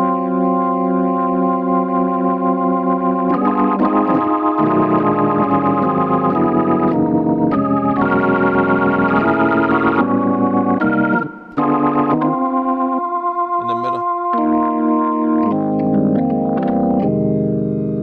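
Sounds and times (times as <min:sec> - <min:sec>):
distorted organ chords: 0:00.0 - 0:18.0.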